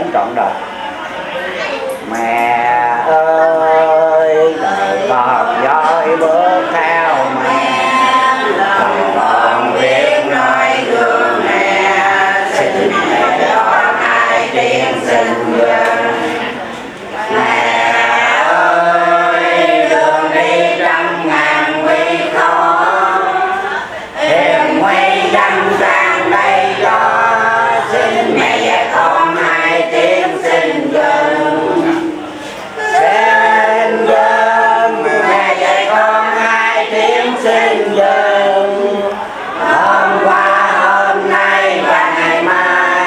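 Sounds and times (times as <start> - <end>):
voices singing a hymn: 0.0 - 43.0.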